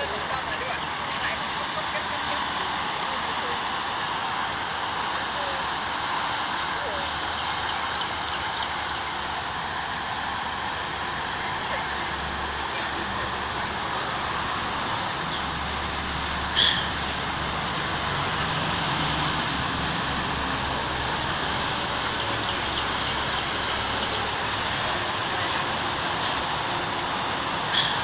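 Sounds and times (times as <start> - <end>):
road traffic hum: 0.0 - 28.0.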